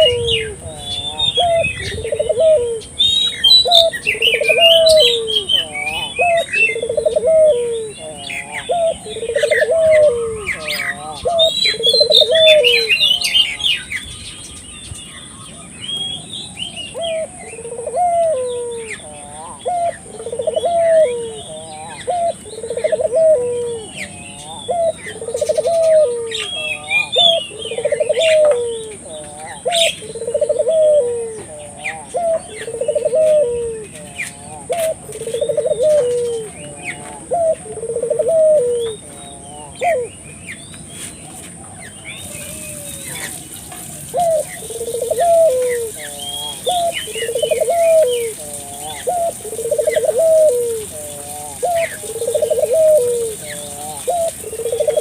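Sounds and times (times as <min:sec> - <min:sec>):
doves cooing: 0:00.0 - 0:55.0
small birds chirping: 0:00.0 - 0:55.0.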